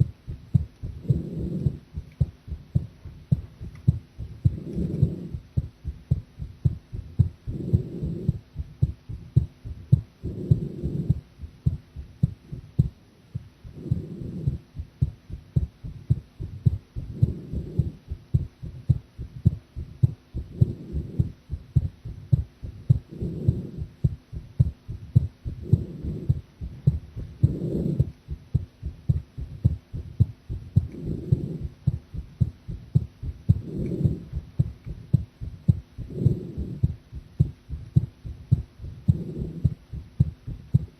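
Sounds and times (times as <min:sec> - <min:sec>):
fast heartbeat thumps: 0:00.0 - 0:40.9.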